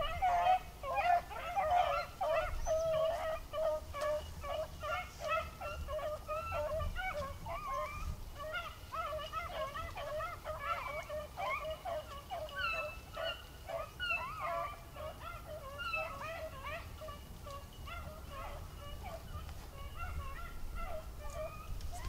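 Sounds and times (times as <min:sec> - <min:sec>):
hounds baying: 0:00.0 - 0:22.0.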